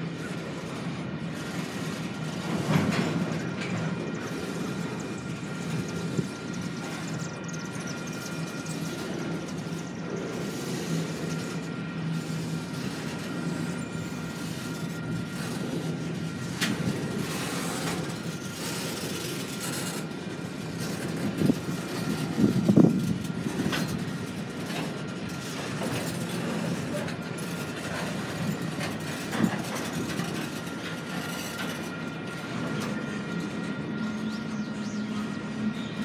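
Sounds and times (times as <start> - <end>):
train clanks and knocks: 0.0 - 36.0
train wheels rumbling: 0.0 - 36.0.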